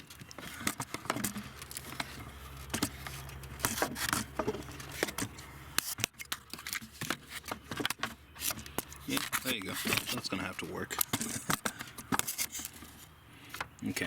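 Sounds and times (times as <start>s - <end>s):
handling clicks knocks and scrapes: 0.0s - 14.0s.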